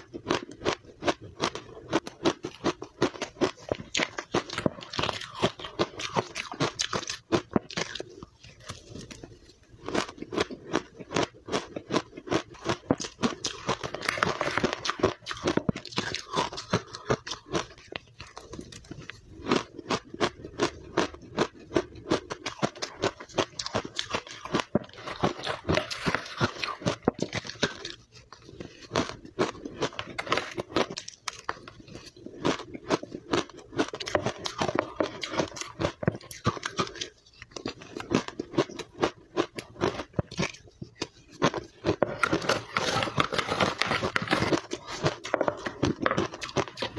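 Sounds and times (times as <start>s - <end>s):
crunching and chewing ice: 0.0s - 46.9s.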